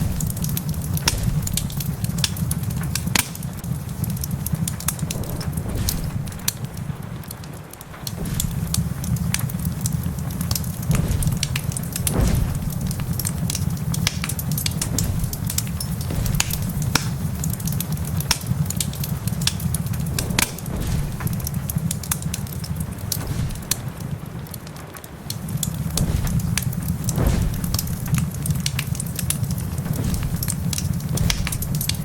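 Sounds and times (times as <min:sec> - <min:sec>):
low rumble: 0:00.0 - 0:24.6, 0:25.4 - 0:32.0
heavy rain pattering: 0:00.0 - 0:32.0
wood fire crackling and popping: 0:00.0 - 0:32.0.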